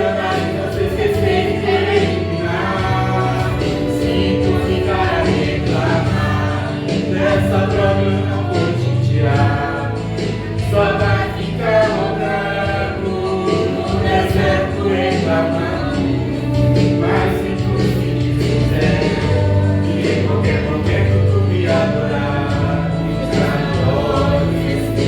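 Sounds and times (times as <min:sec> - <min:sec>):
instrumental backing music: 0:00.0 - 0:25.0
man and woman singing gospel: 0:00.0 - 0:25.0.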